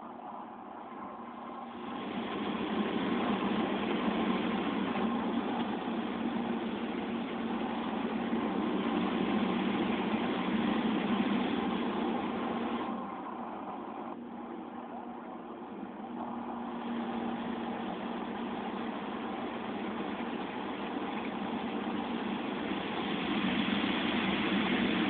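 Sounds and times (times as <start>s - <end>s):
car wash equipment rushing: 0.0s - 25.0s.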